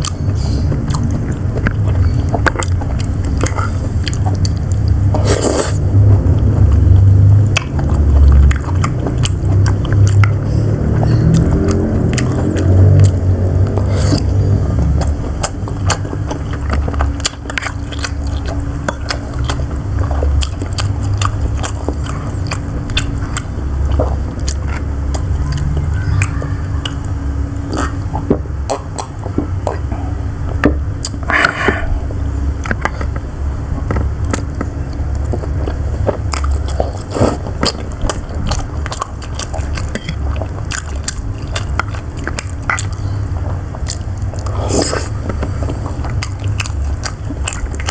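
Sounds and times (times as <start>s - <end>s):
wet mouth clicks: 0.0s - 30.1s, 32.6s - 47.9s
chewing and biting: 0.0s - 47.9s
steady low hum: 0.0s - 47.9s.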